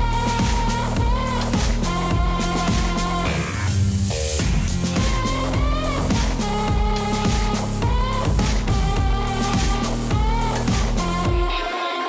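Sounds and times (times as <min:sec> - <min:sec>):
background music with bass: 0:00.0 - 0:11.9.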